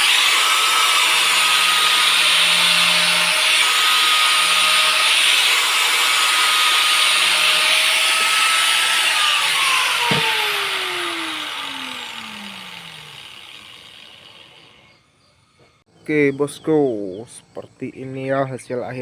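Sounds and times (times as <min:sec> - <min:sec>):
electric power tool whine: 0:00.0 - 0:15.8.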